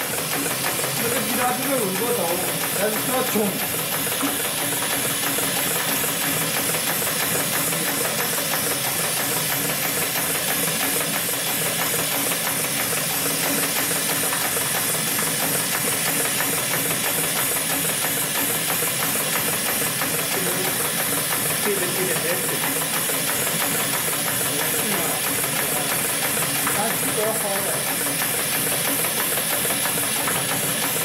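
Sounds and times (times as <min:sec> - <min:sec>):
sewing machine clattering: 0:00.0 - 0:31.0.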